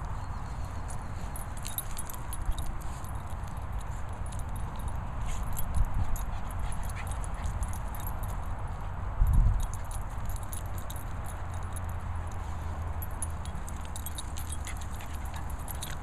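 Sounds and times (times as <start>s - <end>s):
dogs sniffing on grass: 0.0s - 9.0s, 9.6s - 16.0s
faint clinking: 0.0s - 16.0s.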